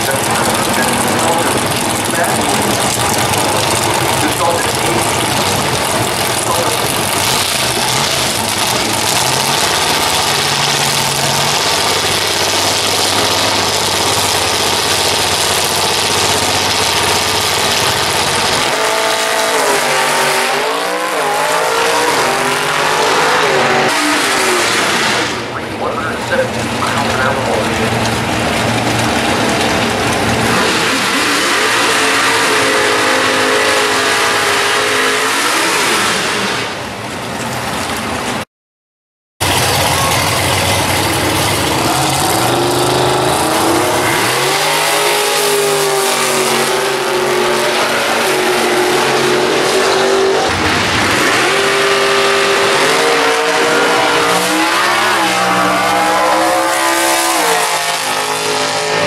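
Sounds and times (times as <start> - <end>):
drag car engines revving: 0.0 - 38.4, 39.4 - 59.0.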